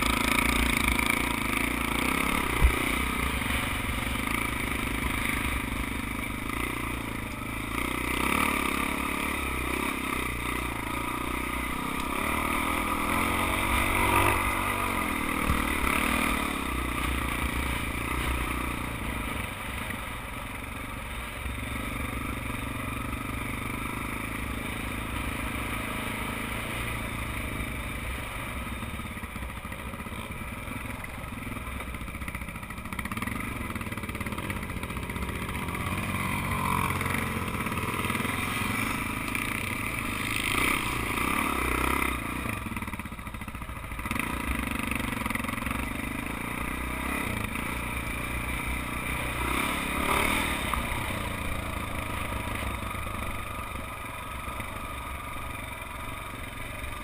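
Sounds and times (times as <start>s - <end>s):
dirt bike engine revving: 0.0s - 29.4s, 33.0s - 57.0s.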